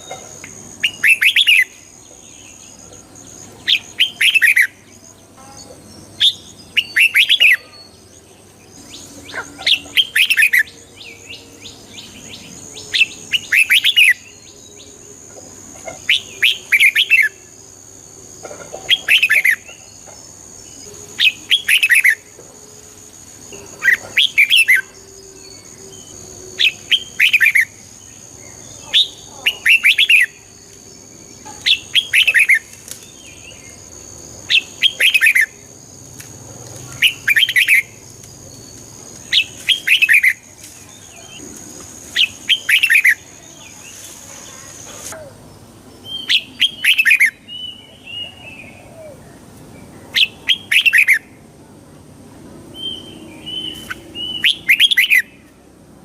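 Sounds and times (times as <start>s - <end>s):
bird singing chirpy song: 0.0s - 51.4s, 52.7s - 55.5s.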